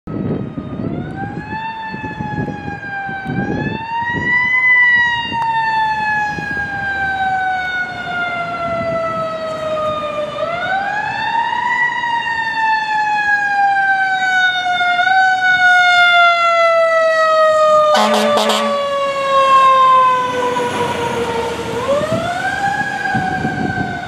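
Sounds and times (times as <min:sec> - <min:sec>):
fire engine siren wailing: 0:00.1 - 0:24.0
traffic rumble: 0:00.2 - 0:24.0.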